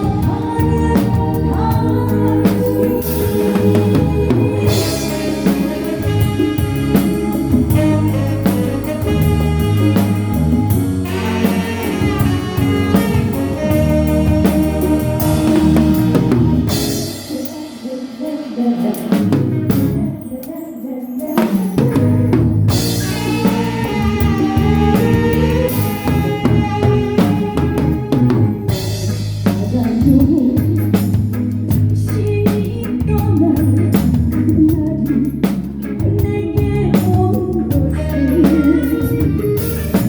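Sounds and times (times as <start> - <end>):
live band playing: 0.0 - 20.6, 21.2 - 40.0
person singing: 0.0 - 31.4, 32.0 - 40.0.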